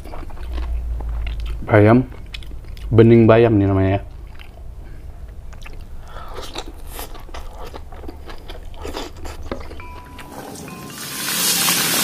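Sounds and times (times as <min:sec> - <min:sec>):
person chewing leaves: 0:00.0 - 0:03.0, 0:04.0 - 0:10.7.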